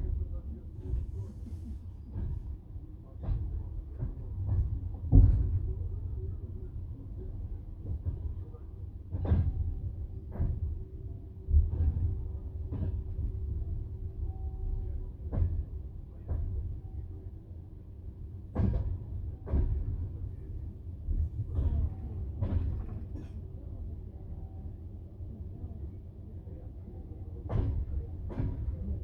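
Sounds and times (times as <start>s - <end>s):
railway carriage rumble: 0.0s - 29.0s.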